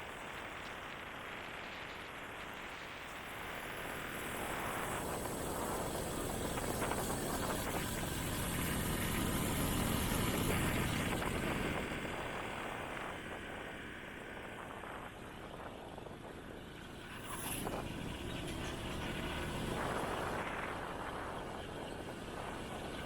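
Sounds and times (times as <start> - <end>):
motorbike engine and road rush: 0.0 - 23.0.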